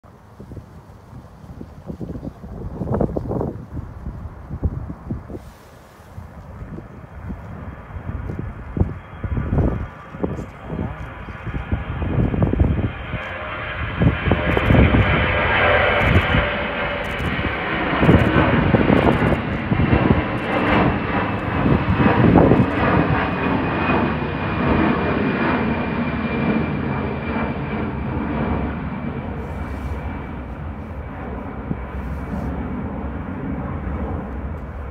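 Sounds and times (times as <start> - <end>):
jet engines roaring with high whine: 0.1 - 34.9.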